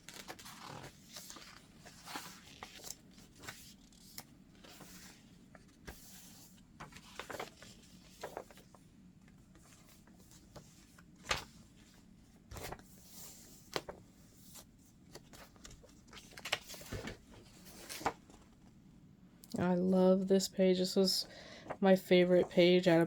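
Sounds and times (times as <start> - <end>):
paper pages rustling: 0.0 - 18.7.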